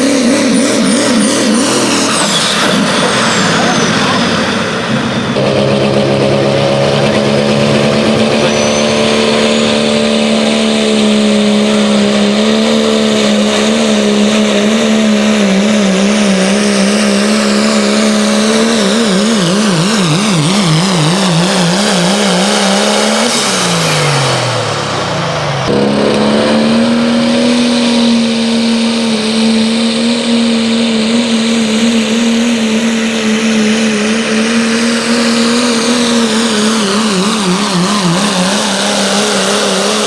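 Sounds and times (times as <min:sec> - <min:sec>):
engine at high revs under load: 0:00.0 - 0:40.0.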